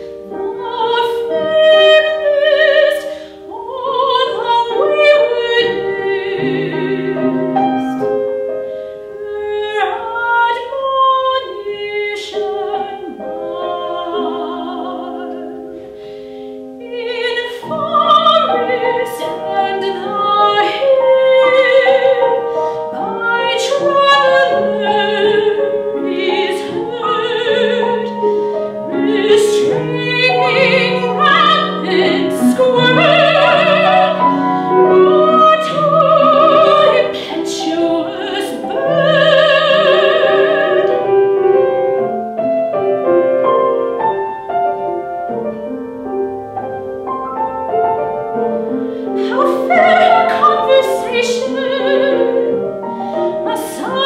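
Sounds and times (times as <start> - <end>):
soprano singing with vibrato: 0.0 - 43.8, 47.4 - 54.0
grand piano: 0.0 - 54.0.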